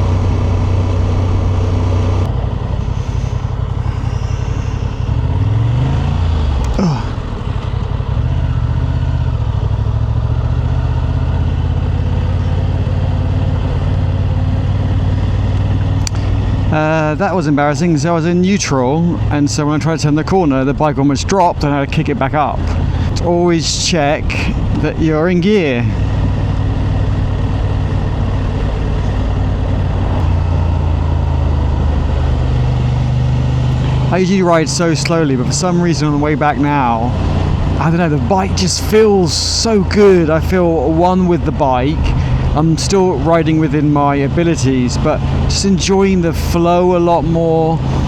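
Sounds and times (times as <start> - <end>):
motorcycle engine idling: 0.0 - 48.0
wind and road noise: 0.0 - 48.0.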